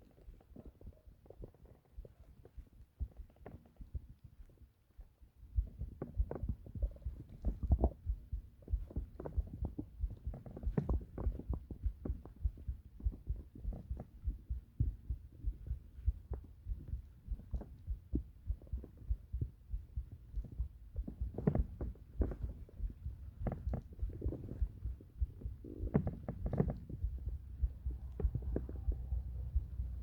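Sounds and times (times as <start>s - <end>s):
heartbeat thumps: 0.0s - 30.0s
stomach gurgles: 0.0s - 30.0s.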